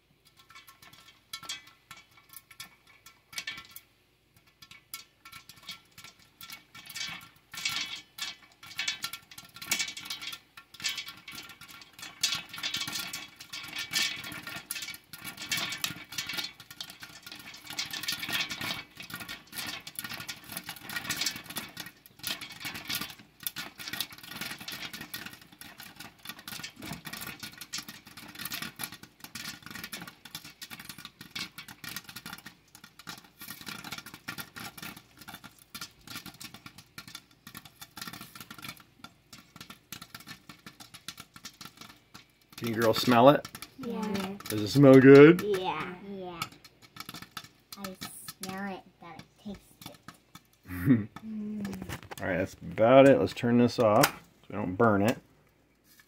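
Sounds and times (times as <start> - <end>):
grease sizzling in a pan: 0.0 - 56.0
popcorn popping: 0.0 - 56.0.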